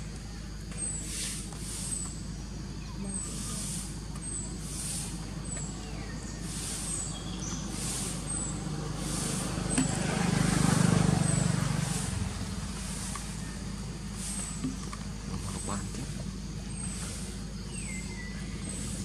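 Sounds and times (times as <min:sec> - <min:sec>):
steady low hum: 0:00.0 - 0:19.0
vehicle engine rumble passing: 0:00.0 - 0:19.0.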